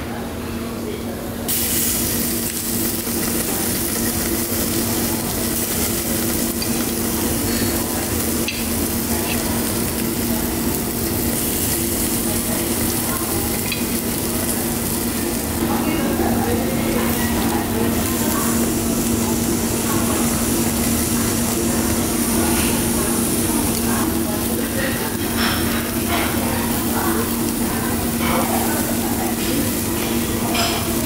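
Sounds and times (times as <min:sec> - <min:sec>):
meat sizzling on grill: 0:01.5 - 0:31.0.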